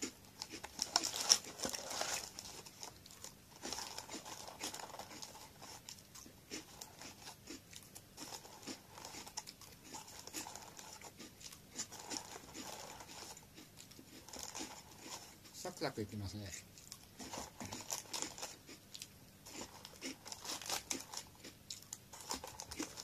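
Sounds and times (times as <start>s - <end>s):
crisp snack chewing: 0.0s - 23.0s
plastic snack bag crinkling: 0.0s - 23.0s.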